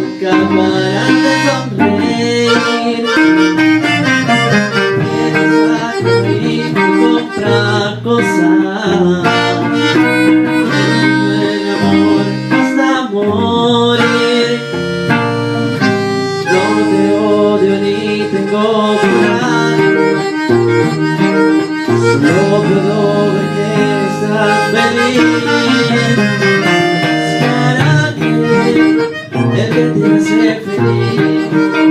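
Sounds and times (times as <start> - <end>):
accordion melody: 0.0 - 31.9
plucked guitar: 0.0 - 31.9.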